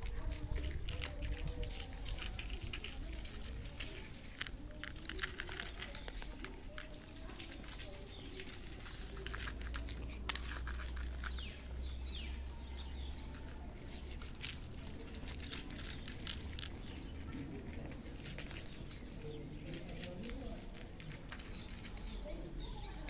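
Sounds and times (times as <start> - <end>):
cats crunching kibble: 0.0 - 23.0.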